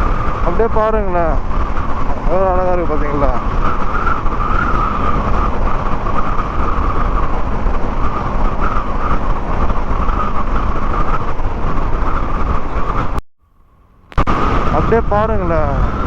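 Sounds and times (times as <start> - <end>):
wind rushing on microphone: 0.0 - 13.2, 14.1 - 16.0
motorcycle engine and road noise: 0.0 - 16.0.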